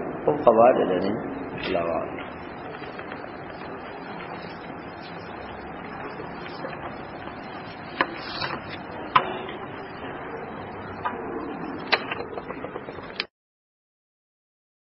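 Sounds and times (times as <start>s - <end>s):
room noise hiss: 0.0s - 13.3s.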